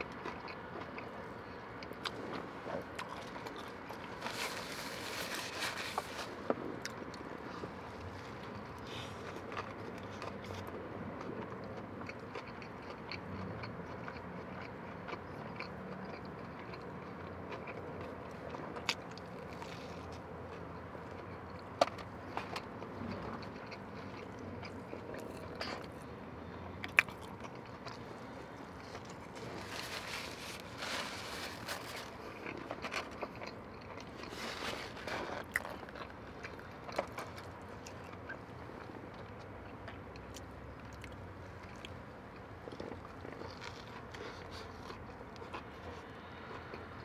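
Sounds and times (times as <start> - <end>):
person chewing: 0.0 - 47.0.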